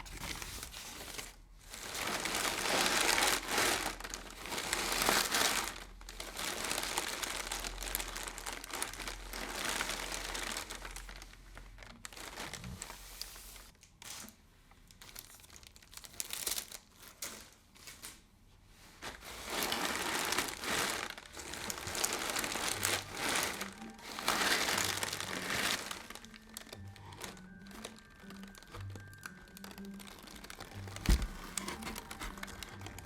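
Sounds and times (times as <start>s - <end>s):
crinkling material: 0.0s - 33.0s.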